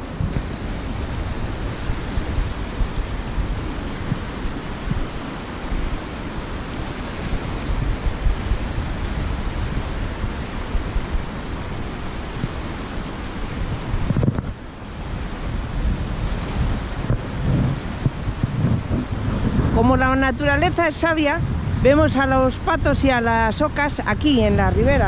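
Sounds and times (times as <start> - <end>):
fast-flowing river rushing: 0.0 - 25.0
wind buffeting microphone: 0.0 - 25.0.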